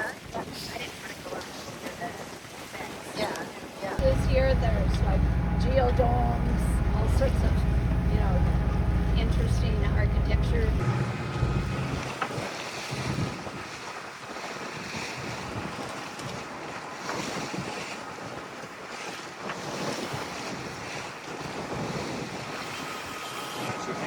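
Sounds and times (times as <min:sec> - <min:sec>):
water rushing past hull: 0:00.0 - 0:24.0
wind on microphone: 0:00.2 - 0:24.0.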